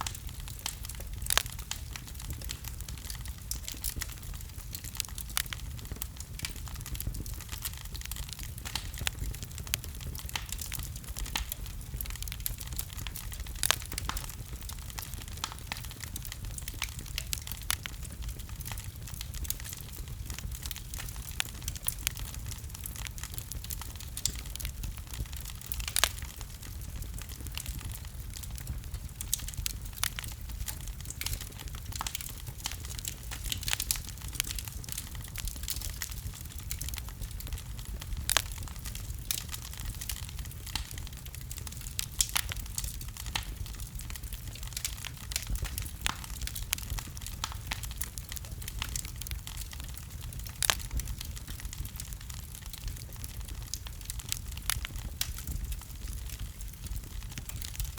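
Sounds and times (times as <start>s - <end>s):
low rumble of flames: 0.0s - 57.9s
wood fire crackling and popping: 0.0s - 57.9s.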